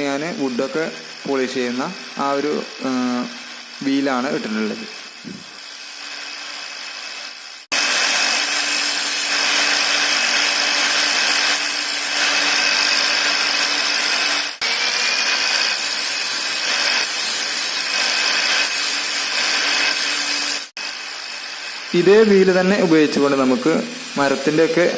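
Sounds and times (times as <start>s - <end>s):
drill bit grinding: 0.0s - 24.9s.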